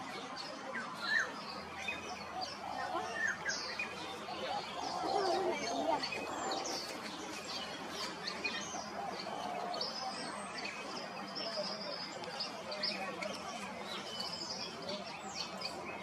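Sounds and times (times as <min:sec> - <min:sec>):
small birds chirping: 0:00.4 - 0:16.0.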